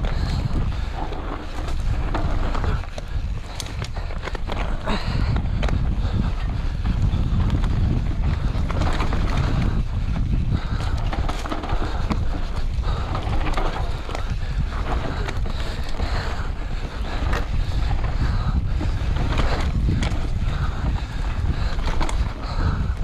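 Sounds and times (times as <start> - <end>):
bike rattling over bumps: 0.0 - 23.0
tyre noise on dirt: 0.0 - 23.0
wind buffeting microphone: 0.0 - 23.0.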